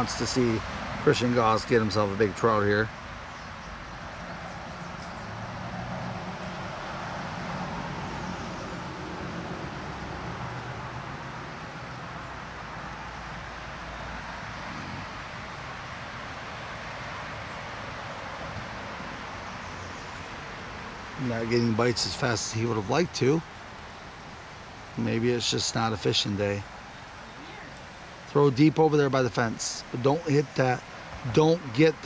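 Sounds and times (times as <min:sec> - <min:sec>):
creek rushing: 0:00.0 - 0:32.0.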